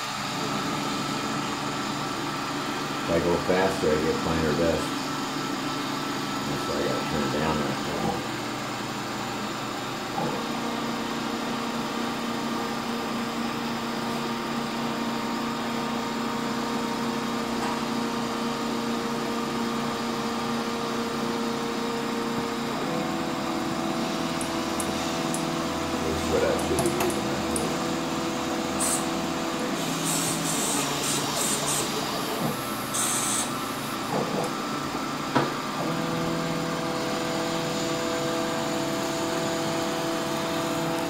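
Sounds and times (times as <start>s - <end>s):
cnc mill machining whine: 0.0s - 41.0s.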